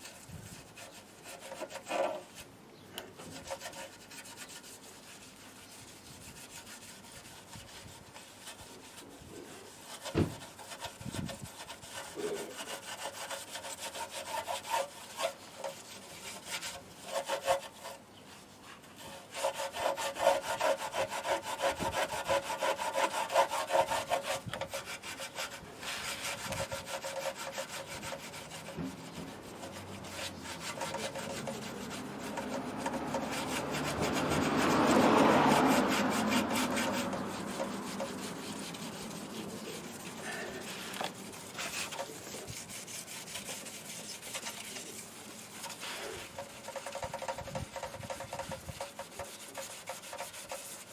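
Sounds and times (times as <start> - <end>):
abrasive rubbing strokes: 3.2 - 50.9.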